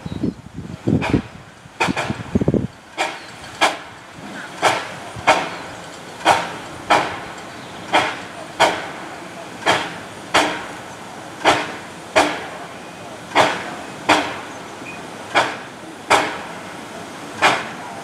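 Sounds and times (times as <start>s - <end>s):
train wheels clacking over rail joints: 0.8s - 18.0s.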